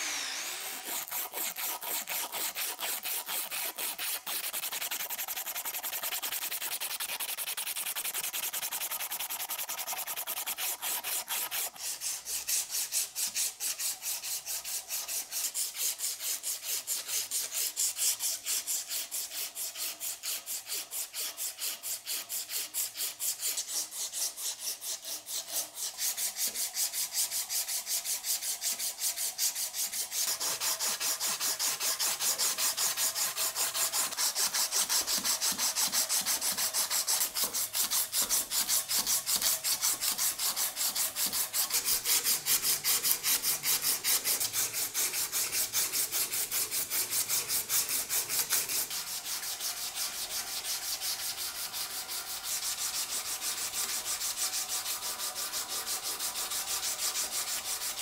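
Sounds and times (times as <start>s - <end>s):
abrasive paper rasping on metal: 0.0s - 58.0s.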